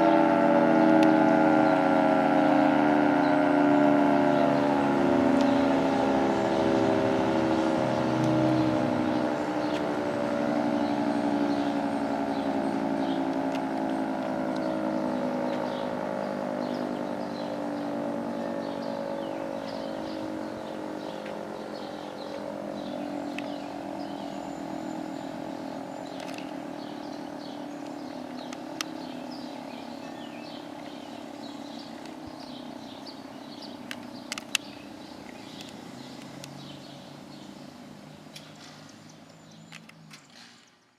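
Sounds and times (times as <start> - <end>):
warning siren winding down: 0.0 - 35.2
birds chirping: 0.0 - 40.9.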